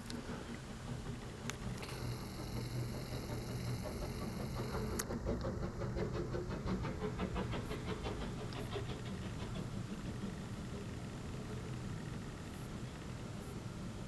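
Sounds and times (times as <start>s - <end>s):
muffled steam train rumble: 0.0s - 14.0s.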